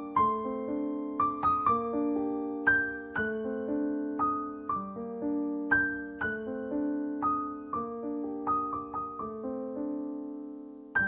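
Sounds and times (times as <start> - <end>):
soft solo piano: 0.0 - 11.0.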